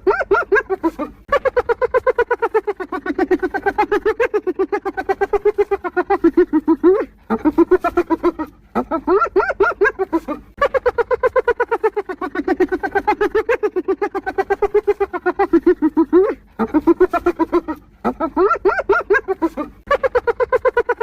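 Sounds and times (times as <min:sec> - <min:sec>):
hyena giggling: 0:00.0 - 0:21.0.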